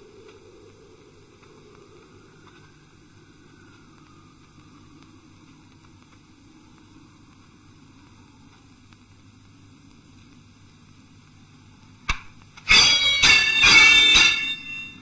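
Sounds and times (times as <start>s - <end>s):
faint ticks: 0.0s - 12.7s
low steady hum and hiss: 0.0s - 15.0s.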